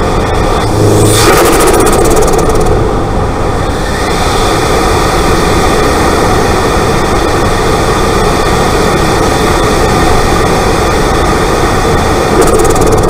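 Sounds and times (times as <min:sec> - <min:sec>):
turbocharged car engine running: 0:00.0 - 0:13.0.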